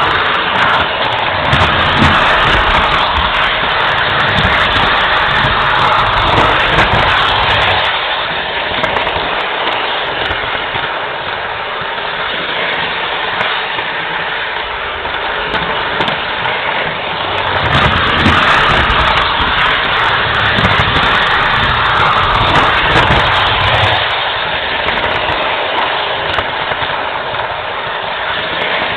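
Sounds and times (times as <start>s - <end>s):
low rumble: 0.0s - 28.9s
model train rushing noise: 0.0s - 28.9s.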